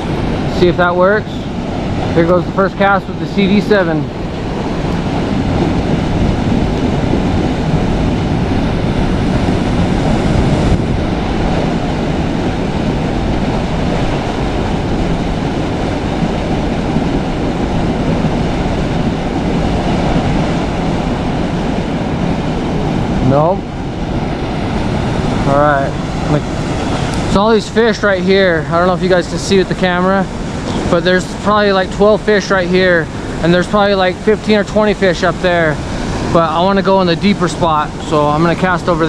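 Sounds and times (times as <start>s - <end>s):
river flowing: 0.0s - 39.0s.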